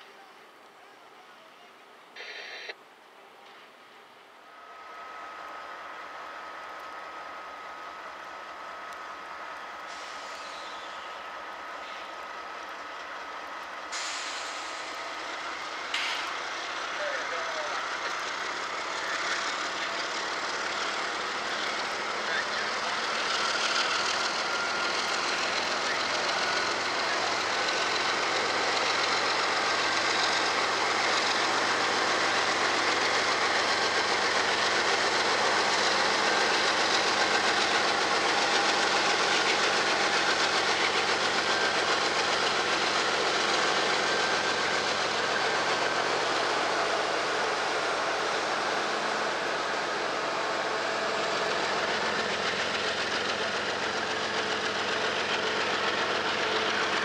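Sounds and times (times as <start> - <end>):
diesel locomotives: 0.0 - 57.0
train wheels rumbling on rails: 4.8 - 57.0.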